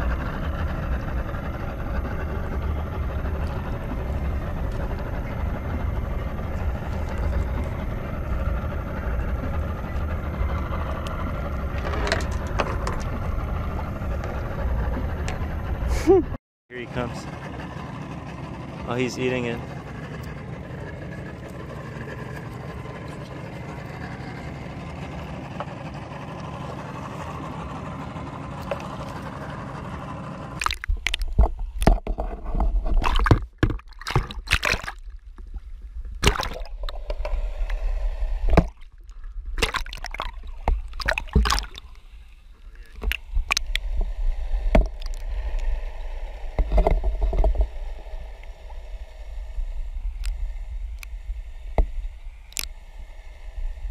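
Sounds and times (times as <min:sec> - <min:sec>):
water sloshing and gurgling: 0:00.0 - 0:16.4, 0:17.0 - 0:29.7, 0:30.5 - 0:53.9
muffled underwater rumble: 0:00.0 - 0:53.9.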